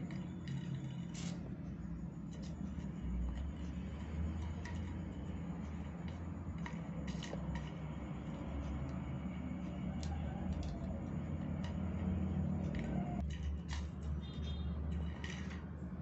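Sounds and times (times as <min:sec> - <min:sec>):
straw clicking on tiled floor: 0:00.0 - 0:16.0.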